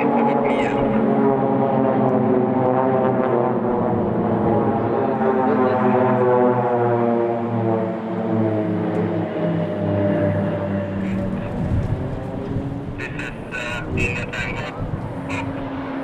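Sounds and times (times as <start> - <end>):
propeller aircraft droning overhead: 0.0 - 16.0.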